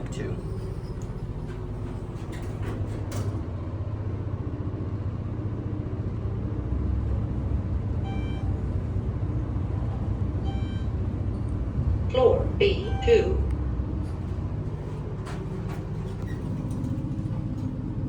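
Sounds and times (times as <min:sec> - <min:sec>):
elevator travelling rumble: 0:00.0 - 0:18.0.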